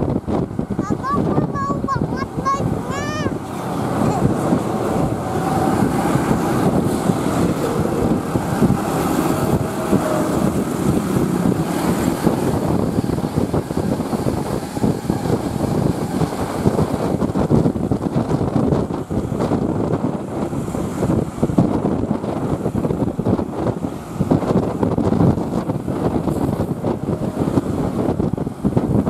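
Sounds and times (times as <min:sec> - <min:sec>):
bus diesel engine growling: 0:00.0 - 0:29.0
wind buffeting microphone: 0:00.0 - 0:29.0.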